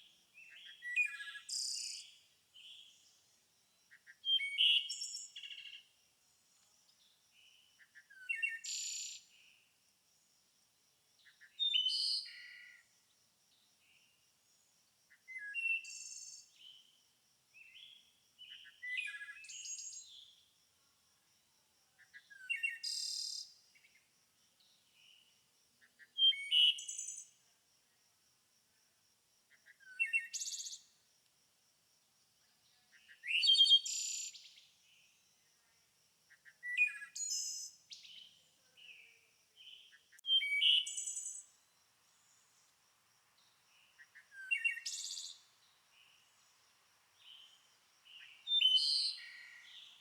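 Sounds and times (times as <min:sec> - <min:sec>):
songbird singing: 0:00.0 - 0:09.7, 0:11.2 - 0:17.0, 0:17.6 - 0:20.6, 0:22.0 - 0:27.5, 0:29.5 - 0:31.0, 0:32.4 - 0:35.7, 0:36.3 - 0:50.0.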